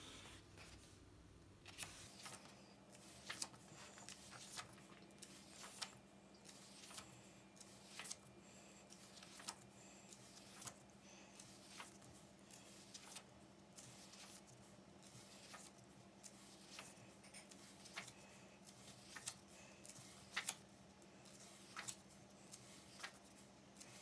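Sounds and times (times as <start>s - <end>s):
book pages flipping: 1.6s - 8.3s, 8.9s - 24.0s.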